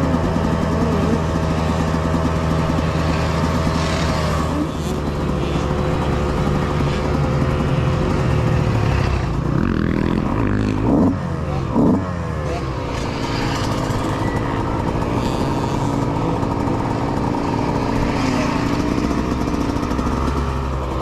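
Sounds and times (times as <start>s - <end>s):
dirt bike engine revving: 0.0s - 21.0s
dirt bike engines running: 0.0s - 21.0s.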